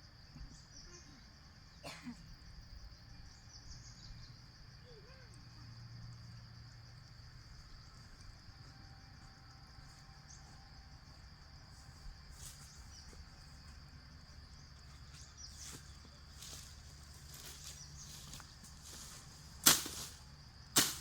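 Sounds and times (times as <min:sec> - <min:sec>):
faint ticks and chirps: 0:00.0 - 0:19.5.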